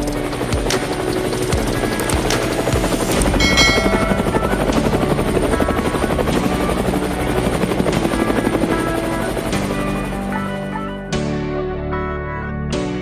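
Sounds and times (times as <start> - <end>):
helicopter rotor chopping: 0.0 - 10.9.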